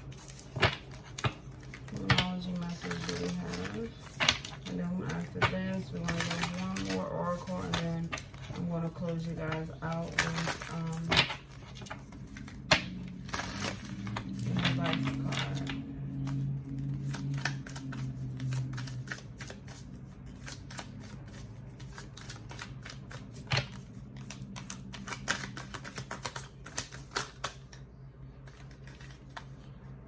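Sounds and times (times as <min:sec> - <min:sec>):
cards shuffling: 0:00.0 - 0:27.8, 0:28.4 - 0:29.7.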